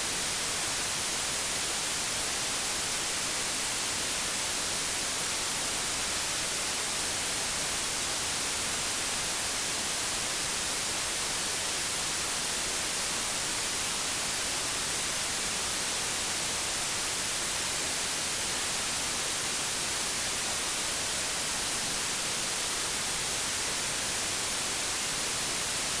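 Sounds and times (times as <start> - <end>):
electronic white noise hiss: 0.0 - 26.0.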